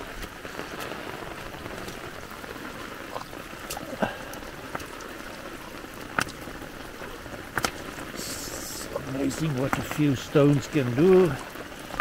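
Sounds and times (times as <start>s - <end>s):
water rushing past stones: 0.0s - 12.0s.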